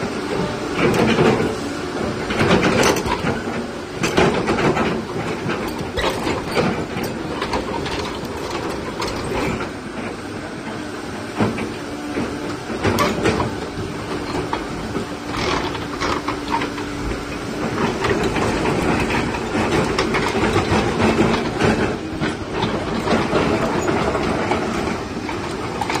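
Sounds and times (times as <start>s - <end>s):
diesel engine under load: 0.0s - 26.0s
hydraulics pushing: 0.0s - 26.0s
metal clanks from tracks: 0.0s - 26.0s.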